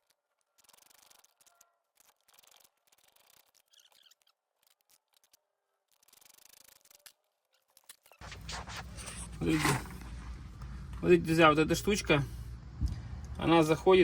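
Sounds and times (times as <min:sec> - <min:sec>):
faint scratchy handling noises: 0:00.0 - 0:13.8.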